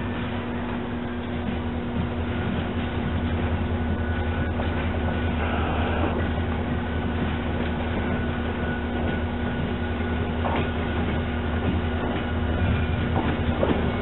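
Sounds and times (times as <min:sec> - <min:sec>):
diesel locomotives droning: 0:00.0 - 0:14.0.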